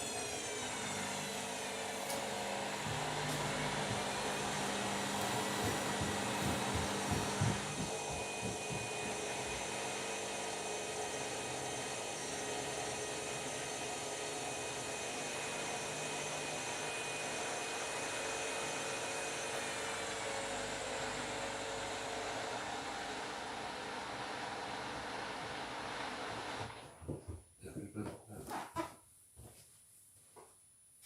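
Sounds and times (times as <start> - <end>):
washing machine whirring: 0.0 - 27.0.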